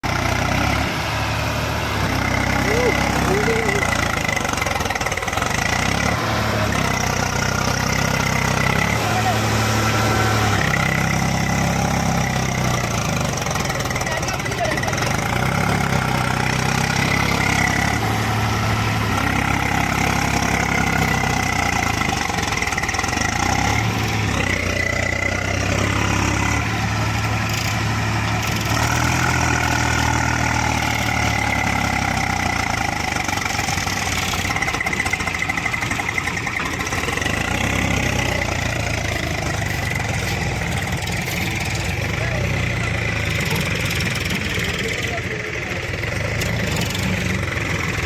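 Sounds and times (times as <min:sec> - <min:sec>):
tractor diesel engine revving: 0:00.0 - 0:48.0.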